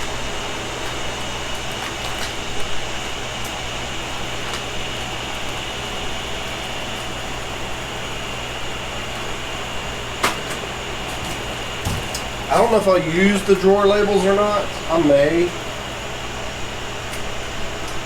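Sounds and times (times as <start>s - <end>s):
fan-like whirring hum: 0.0s - 18.0s.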